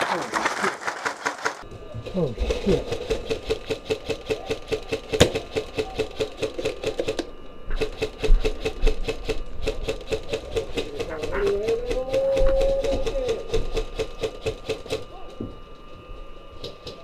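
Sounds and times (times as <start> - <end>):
rapid mechanical clicking: 0.0 - 15.1.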